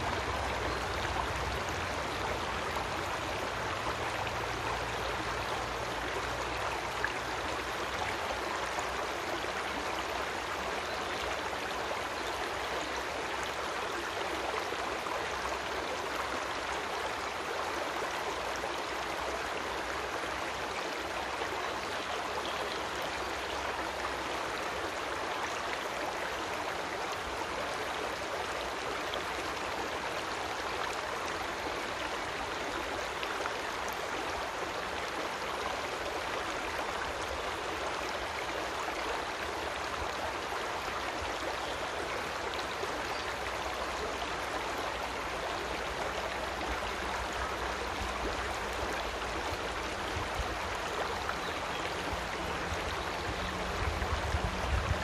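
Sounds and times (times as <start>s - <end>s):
creek flowing: 0.0s - 55.0s.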